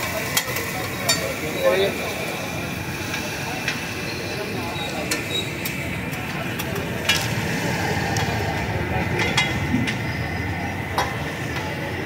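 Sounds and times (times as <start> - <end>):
busy street food stall noise: 0.0 - 12.0.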